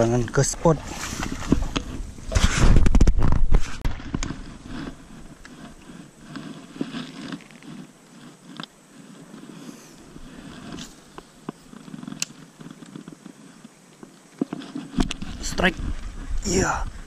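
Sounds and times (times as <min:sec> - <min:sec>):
brush rustling: 0:00.0 - 0:17.0.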